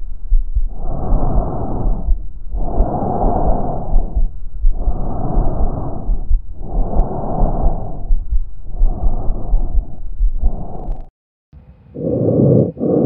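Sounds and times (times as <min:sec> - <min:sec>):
breath sounds through stethoscope: 0:00.0 - 0:11.1, 0:11.9 - 0:13.0
low thumping: 0:00.0 - 0:13.0.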